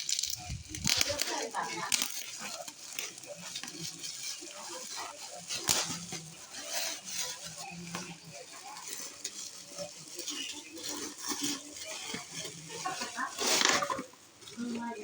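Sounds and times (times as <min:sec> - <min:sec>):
packaging rustling: 0:00.0 - 0:15.0
faint voices murmuring: 0:00.3 - 0:15.0.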